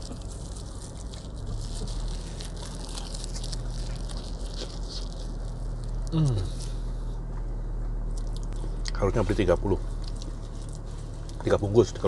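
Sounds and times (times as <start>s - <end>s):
crisp chewing sounds: 0.0s - 7.0s, 8.1s - 12.0s
steady low hum: 0.0s - 12.0s.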